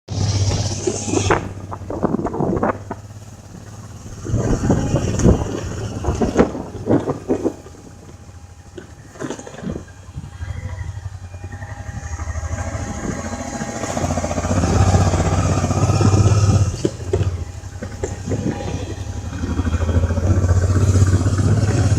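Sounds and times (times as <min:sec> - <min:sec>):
vehicle engine humming: 0:00.0 - 0:21.9
sharp knocks and rattles: 0:00.1 - 0:21.9.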